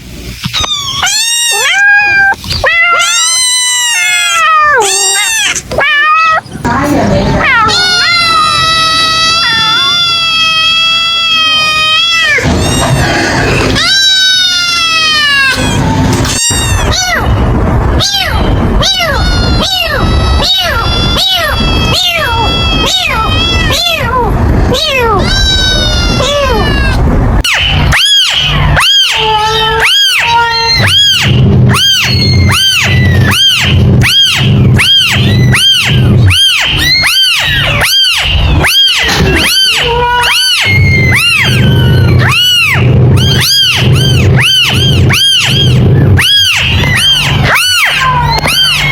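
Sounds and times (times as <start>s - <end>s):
kitten meowing: 0.4s - 6.7s, 7.4s - 48.9s
low hum: 6.4s - 48.9s.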